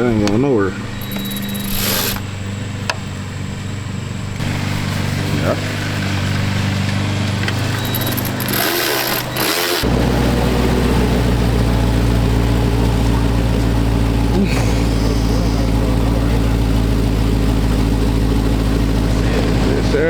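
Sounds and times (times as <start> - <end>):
car engine starting and idling: 0.0 - 20.0.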